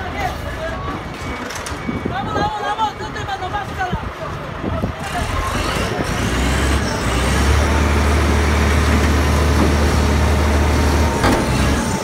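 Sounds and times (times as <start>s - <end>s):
crane diesel engine rumbling: 0.0s - 12.0s.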